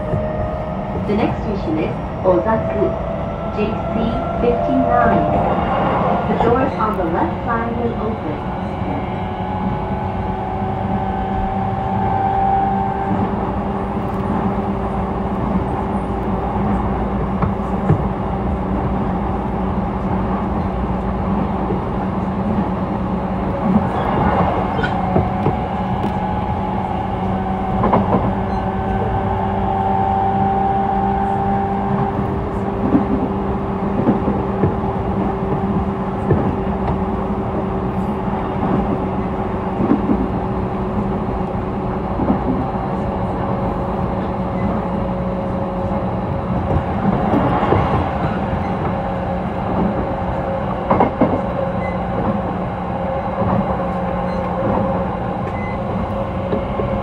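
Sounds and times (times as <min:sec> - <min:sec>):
train motor hum: 0:00.0 - 0:57.0
wheels rumbling on rail: 0:00.0 - 0:57.0.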